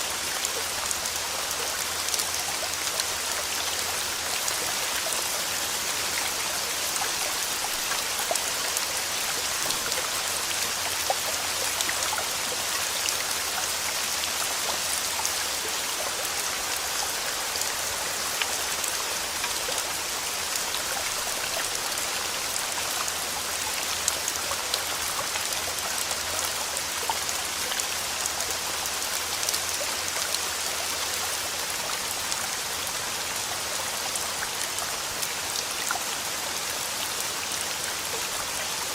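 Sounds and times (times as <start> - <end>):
raindrops ticking on surfaces: 0.0 - 38.9
steady rainfall: 0.0 - 38.9.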